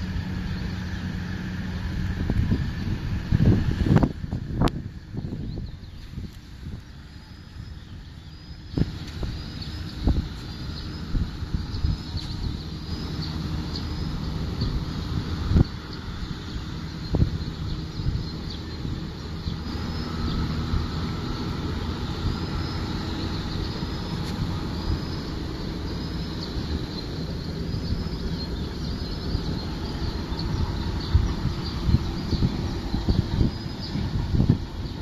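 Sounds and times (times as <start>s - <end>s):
low mechanical hum: 0.0s - 35.0s
small birds chirping: 0.0s - 35.0s
wind rumbling on microphone: 0.0s - 35.0s.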